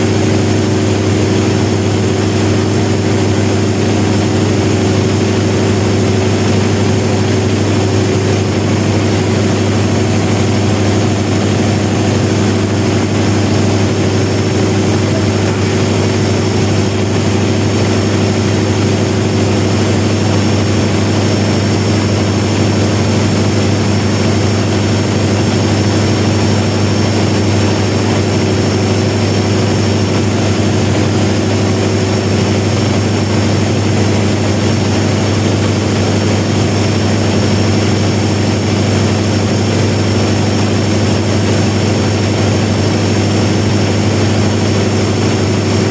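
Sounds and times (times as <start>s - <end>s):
diesel generator droning: 0.0s - 45.9s.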